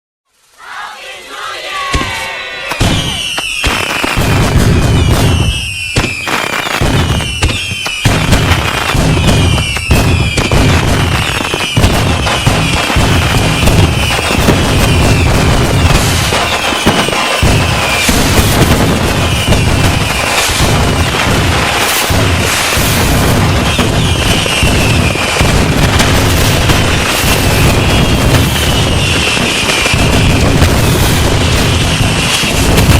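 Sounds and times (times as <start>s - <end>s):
fireworks bangs and crackling: 0.3s - 32.9s
whistling rockets: 0.6s - 32.9s
low booming: 2.8s - 6.2s, 6.8s - 32.9s.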